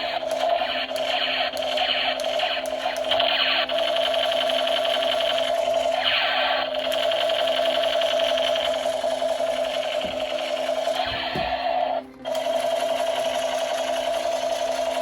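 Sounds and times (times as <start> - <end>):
toy gun buzzing rattle: 0.0 - 15.0.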